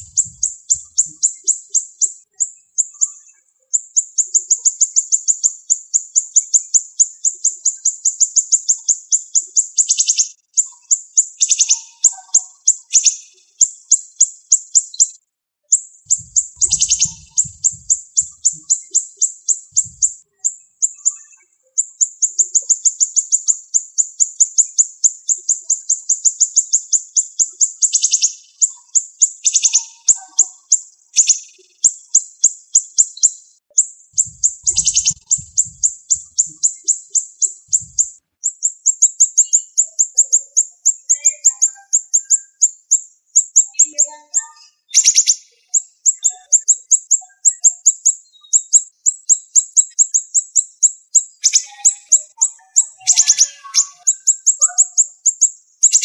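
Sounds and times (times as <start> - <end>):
bird singing rapid high notes: 0.0 - 13.8, 15.7 - 24.6, 25.3 - 56.0.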